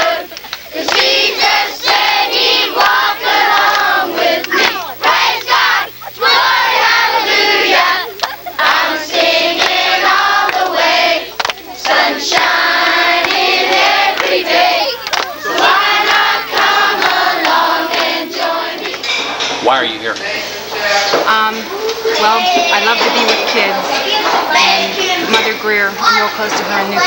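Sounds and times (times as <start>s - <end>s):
children and women singing: 0.0s - 19.1s, 20.8s - 27.0s.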